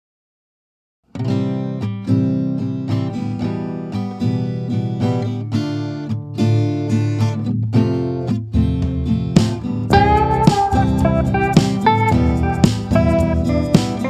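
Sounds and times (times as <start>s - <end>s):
acoustic guitar picked and strummed: 1.1s - 14.0s.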